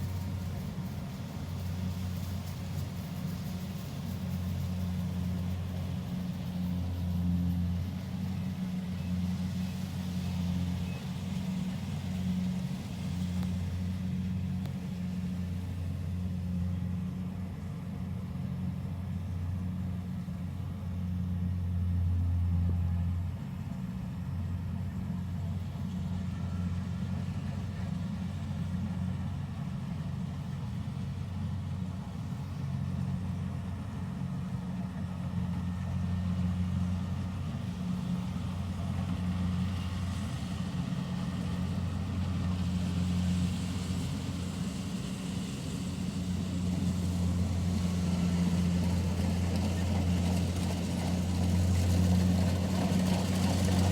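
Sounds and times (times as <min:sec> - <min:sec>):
combine harvester engine droning: 0:00.0 - 0:53.9.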